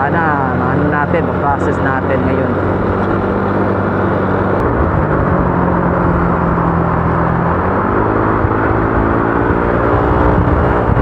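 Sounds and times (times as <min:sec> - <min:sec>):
scooter engine cruising: 0:00.0 - 0:11.0.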